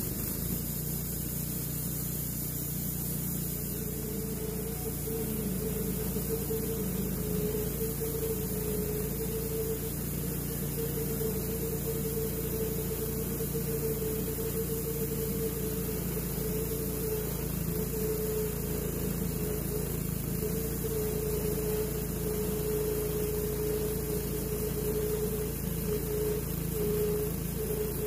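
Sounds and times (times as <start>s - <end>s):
engine hum: 0.0s - 28.0s.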